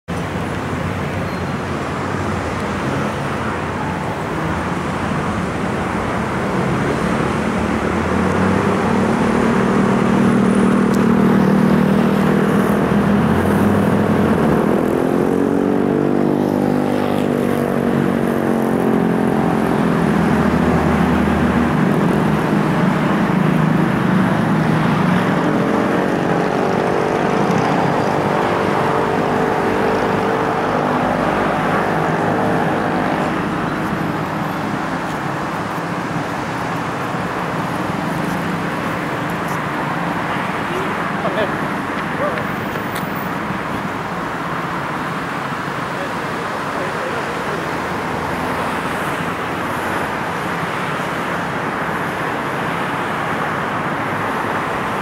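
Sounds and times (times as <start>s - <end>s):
road traffic: 0.0s - 55.0s
passing vehicle engine: 0.2s - 55.0s.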